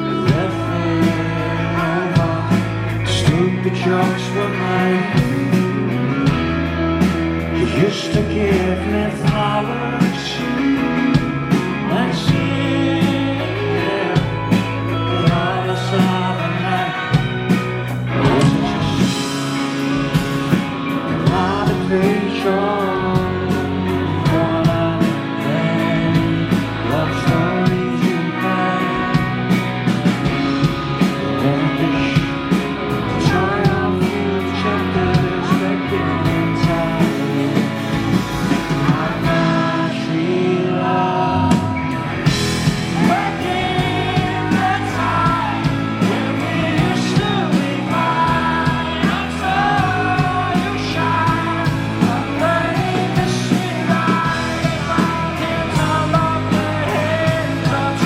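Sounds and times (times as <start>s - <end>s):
drums on cymbals: 0.0s - 40.0s, 41.5s - 58.0s
rock band playing live: 0.0s - 58.0s.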